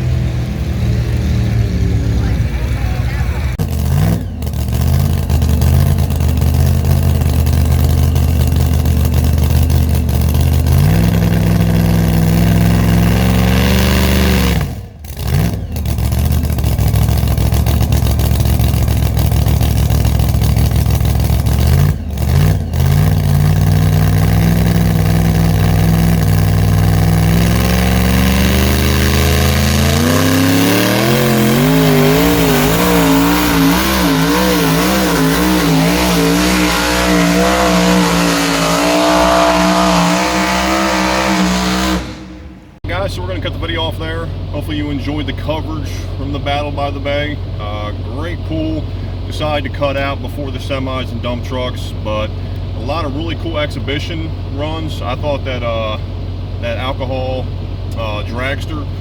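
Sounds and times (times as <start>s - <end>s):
vehicle engine at high revs: 0.0s - 59.0s.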